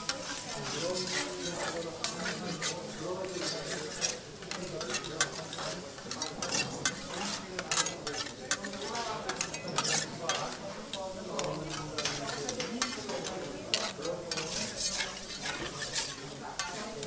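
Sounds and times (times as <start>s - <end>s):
food sizzling on a griddle: 0.0s - 17.0s
metal spatula scraping and tapping: 0.0s - 17.0s.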